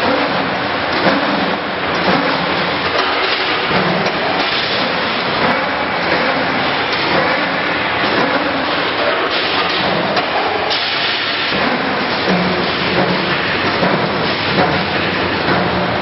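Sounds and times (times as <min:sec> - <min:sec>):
wire bending machine din: 0:00.0 - 0:16.0.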